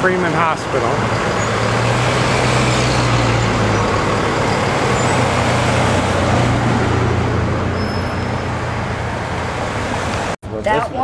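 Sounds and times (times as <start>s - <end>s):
vehicle engine humming: 0.0s - 10.6s
traffic noise: 0.0s - 11.0s.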